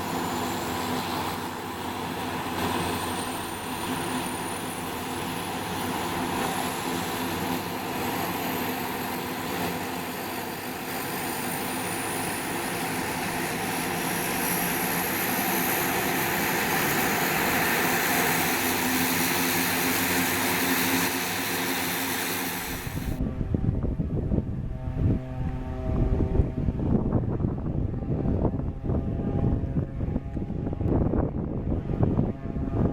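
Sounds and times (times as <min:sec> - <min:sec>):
high turbine whine: 0:00.0 - 0:32.9
turboprop engines droning: 0:00.0 - 0:32.9.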